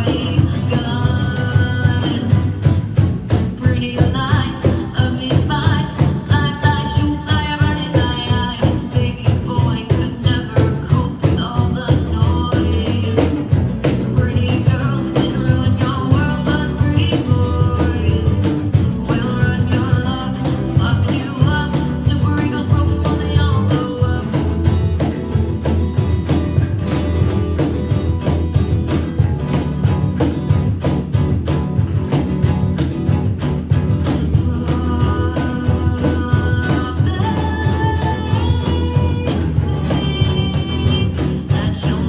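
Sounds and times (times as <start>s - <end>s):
bass guitar: 0.0s - 42.0s
drums keeping a steady beat: 0.0s - 42.0s
electric guitar: 0.0s - 42.0s.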